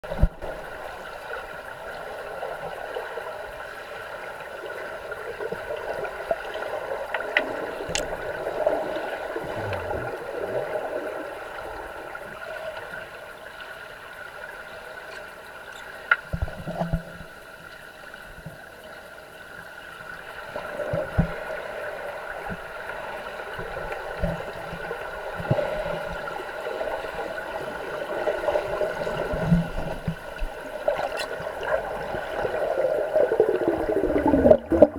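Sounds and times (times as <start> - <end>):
underwater hiss and gurgle: 0.0 - 34.9.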